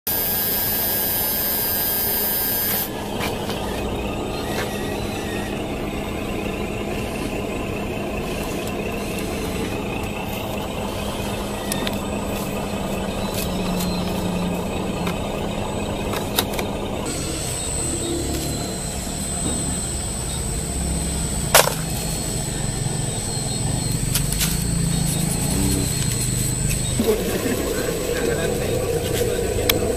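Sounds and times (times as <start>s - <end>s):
high-pitched whine: 0.1s - 29.9s
small electric motor humming: 0.1s - 29.9s.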